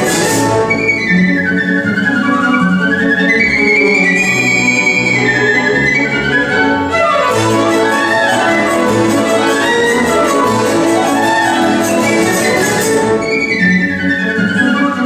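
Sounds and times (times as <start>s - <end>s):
chamber ensemble accompaniment: 0.0s - 15.0s
violin melody: 0.0s - 15.0s.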